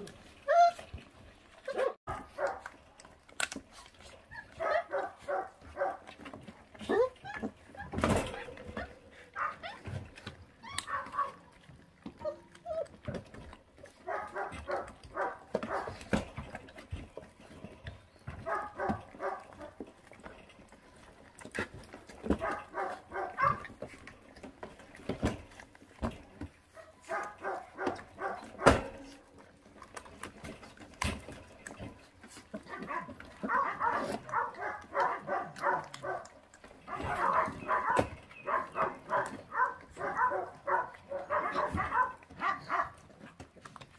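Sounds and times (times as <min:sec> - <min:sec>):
chewing and bone cracking: 0:00.0 - 0:43.9
puppies whining and growling: 0:00.0 - 0:43.9.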